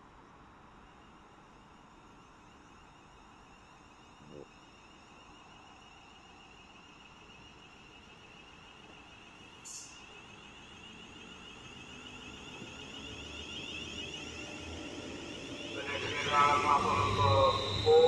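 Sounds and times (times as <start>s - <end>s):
train high whine: 0.0s - 18.0s.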